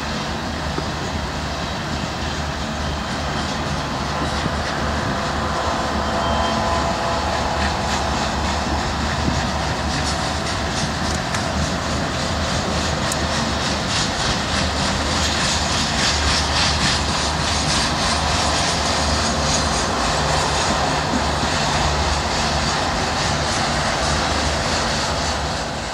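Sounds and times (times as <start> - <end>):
train wheels roaring on rail: 0.0 - 25.9.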